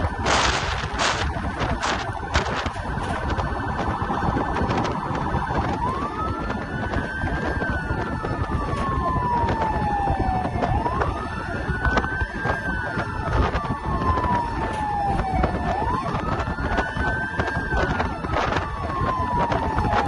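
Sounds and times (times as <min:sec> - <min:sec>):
fire engine siren wailing: 0:00.0 - 0:20.0
traffic rumble: 0:00.0 - 0:20.0.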